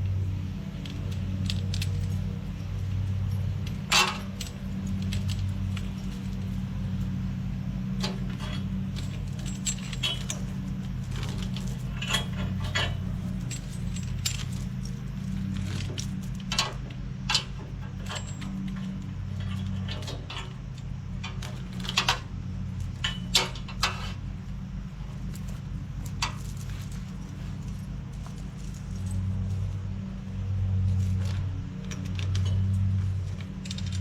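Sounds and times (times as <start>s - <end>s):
tractor engine running: 0.0s - 34.0s
steel chain clinking: 0.8s - 34.0s.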